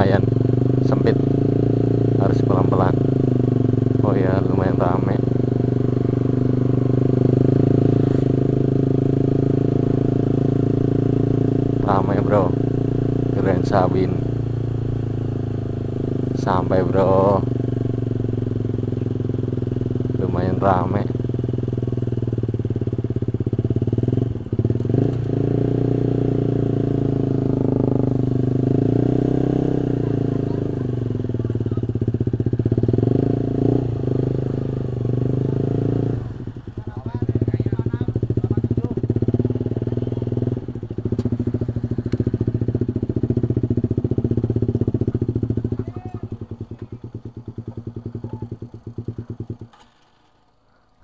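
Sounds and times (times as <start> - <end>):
motorcycle engine running: 0.0 - 50.7.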